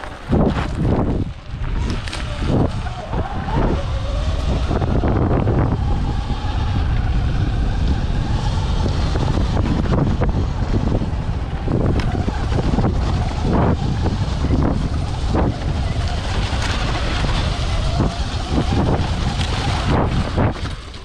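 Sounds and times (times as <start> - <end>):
bike knocking and rattling: 0.0 - 21.0
wind buffeting microphone: 0.0 - 21.0.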